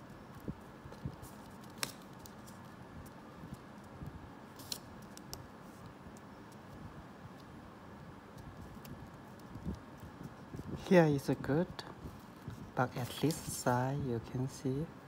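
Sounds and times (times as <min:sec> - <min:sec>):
low room noise: 0:00.0 - 0:15.0.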